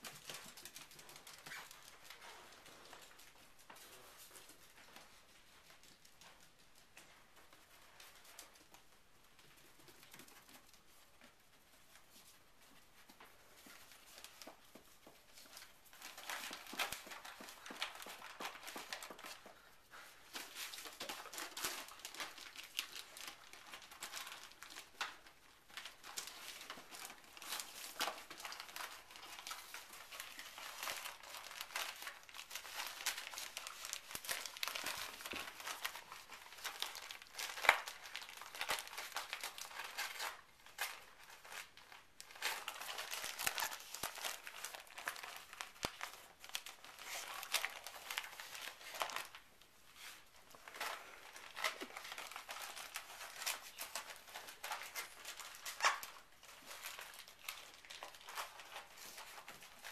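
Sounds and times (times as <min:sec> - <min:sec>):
gift-wrap paper crinkling and tearing: 0:00.0 - 0:06.4, 0:13.4 - 0:59.9.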